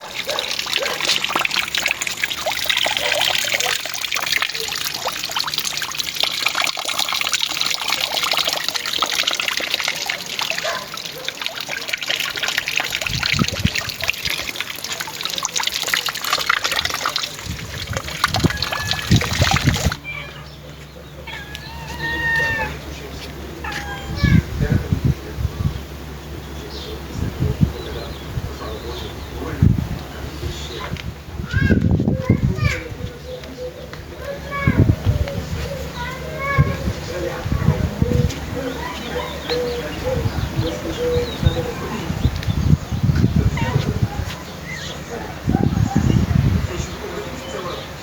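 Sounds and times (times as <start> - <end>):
water trickling: 0.0 - 20.2, 21.4 - 48.0.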